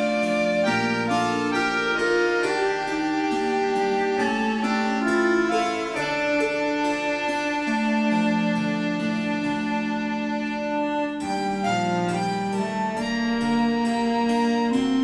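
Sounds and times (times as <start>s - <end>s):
instrumental music with quick notes: 0.0s - 15.0s.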